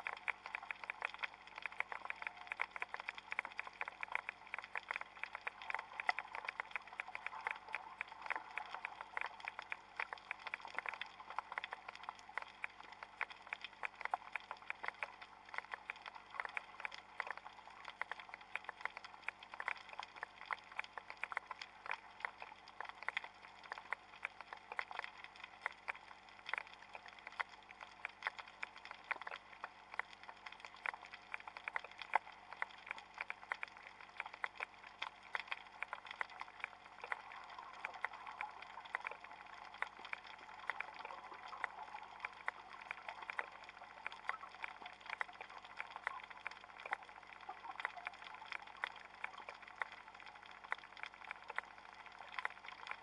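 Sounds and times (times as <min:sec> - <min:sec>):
underwater crackle of tiny clicks: 0:00.0 - 0:53.0.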